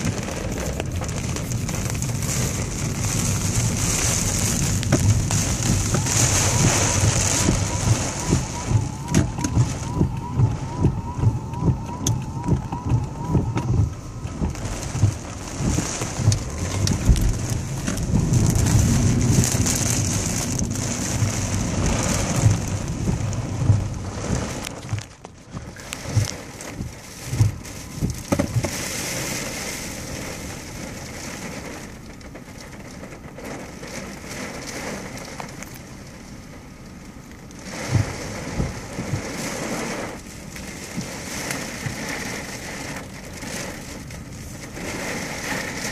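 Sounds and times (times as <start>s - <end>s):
heavy rain on car roof: 0.0s - 45.9s.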